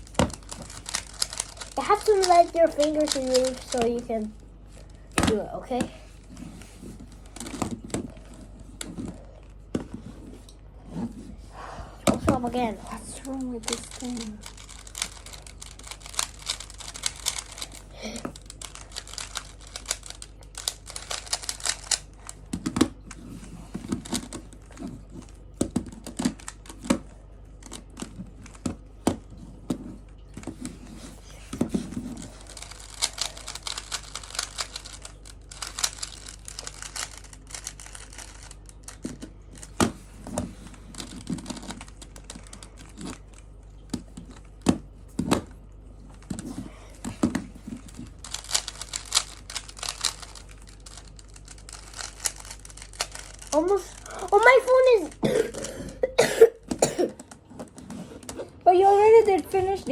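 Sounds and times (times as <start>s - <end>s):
puzzle cube clicking and rattling: 0.0s - 11.3s, 12.0s - 56.0s.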